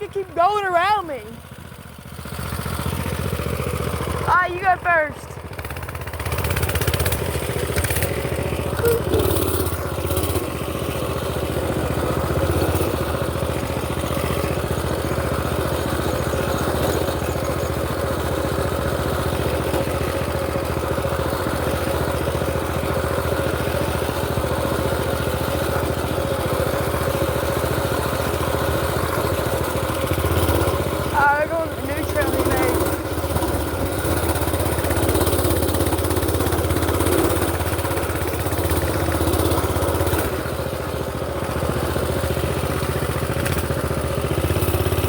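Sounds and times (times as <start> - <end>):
mini-bike engine running: 0.0 - 45.0.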